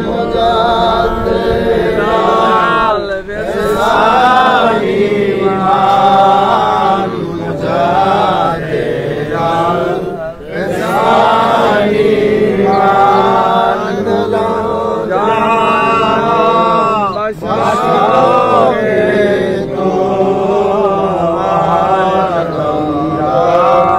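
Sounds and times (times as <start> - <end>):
men chanting: 0.0 - 23.9.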